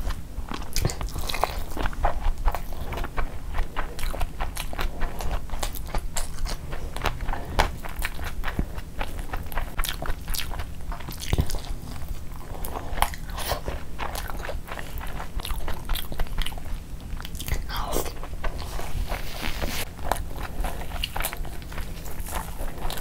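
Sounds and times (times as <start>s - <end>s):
close-miked chewing: 0.0s - 23.0s
steady low hum: 0.0s - 23.0s.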